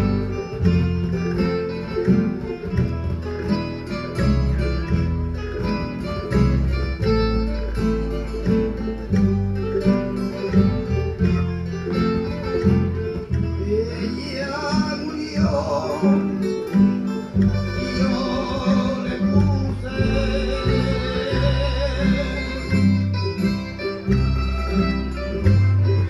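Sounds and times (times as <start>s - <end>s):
bass line: 0.0s - 26.0s
strummed guitars: 0.0s - 26.0s.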